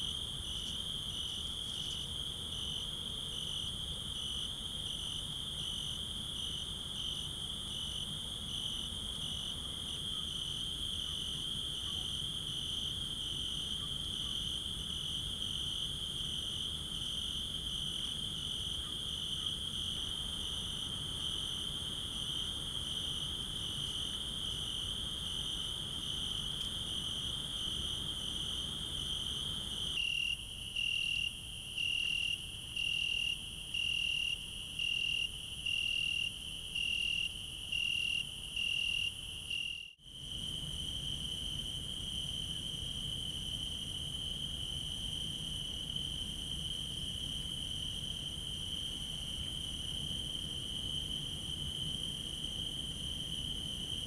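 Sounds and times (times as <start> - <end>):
pulsing insect song: 0.0 - 54.0.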